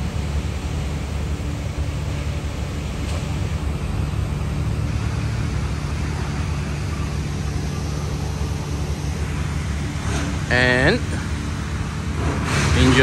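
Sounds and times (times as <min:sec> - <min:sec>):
city traffic rumble: 0:00.0 - 0:13.0
low hum: 0:00.0 - 0:13.0.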